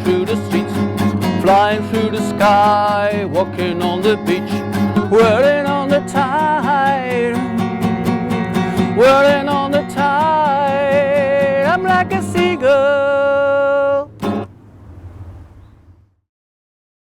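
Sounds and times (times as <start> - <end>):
person singing: 0.0 - 14.2
strummed acoustic guitar: 0.0 - 15.4.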